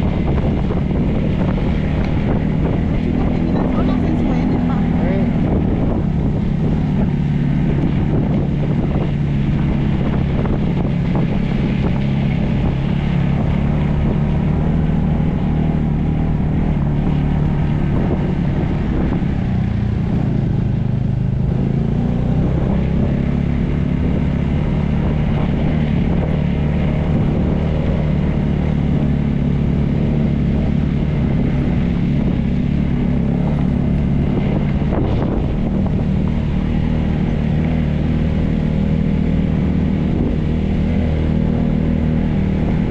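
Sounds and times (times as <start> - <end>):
motorcycle engine running: 0.0 - 42.9
wind rushing over microphone: 0.0 - 42.9.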